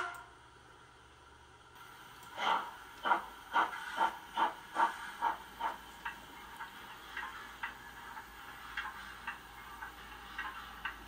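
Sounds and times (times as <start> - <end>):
faint steam hiss: 0.1 - 11.0
steam locomotive exhaust chuffs: 1.8 - 11.0.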